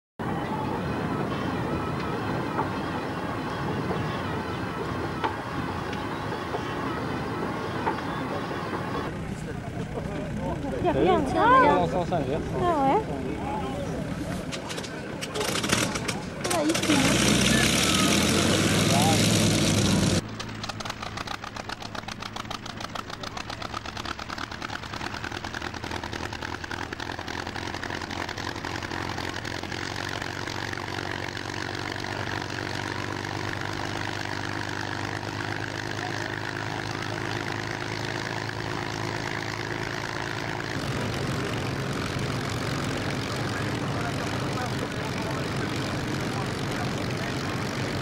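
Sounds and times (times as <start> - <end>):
piston aircraft engine idling: 0.2 - 48.0.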